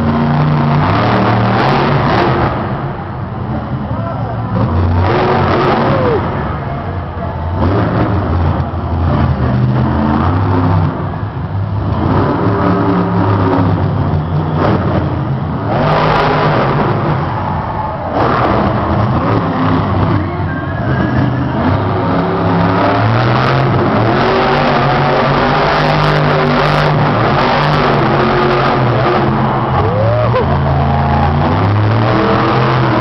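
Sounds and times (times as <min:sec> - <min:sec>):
monster truck engines revving: 0:00.0 - 0:33.0.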